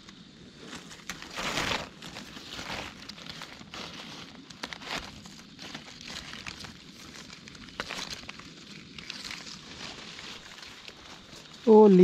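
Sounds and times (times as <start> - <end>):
dry leaves rustling: 0.6 - 12.0
twigs snapping: 0.7 - 11.6.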